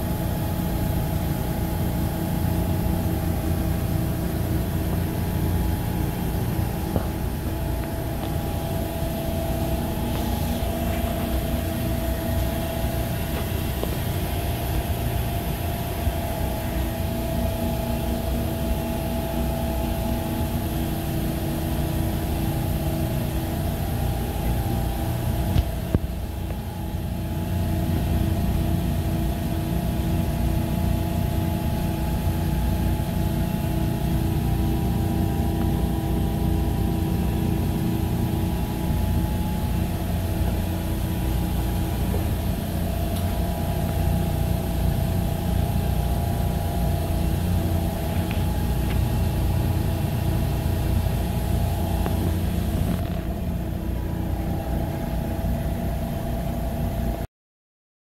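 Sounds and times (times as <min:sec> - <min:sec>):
engine-room machinery drone: 0:00.0 - 0:57.3.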